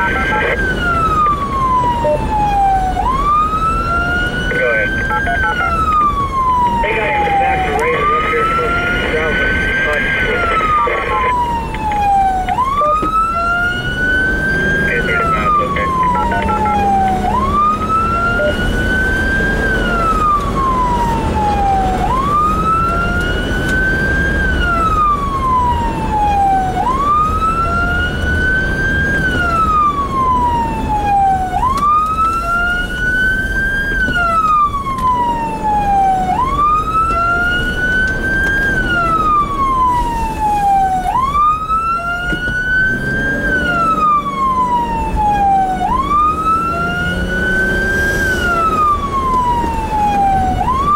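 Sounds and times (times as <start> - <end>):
emergency siren wailing: 0.0 - 50.9
low road rumble: 0.0 - 50.9.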